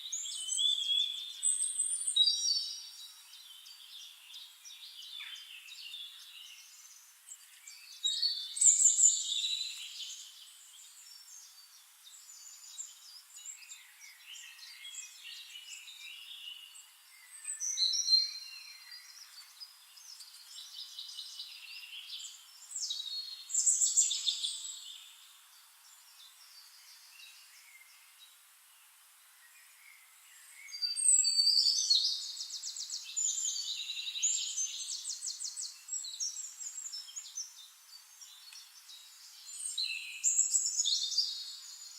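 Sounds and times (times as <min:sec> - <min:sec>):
birds chirping and singing: 0:00.1 - 0:28.1, 0:29.6 - 0:41.9.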